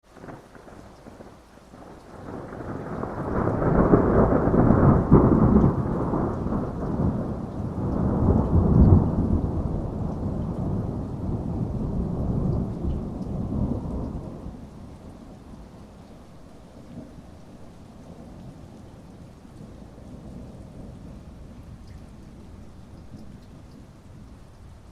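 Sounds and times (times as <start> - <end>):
steady rain: 0.0 - 24.9
rolling thunder: 0.1 - 24.9.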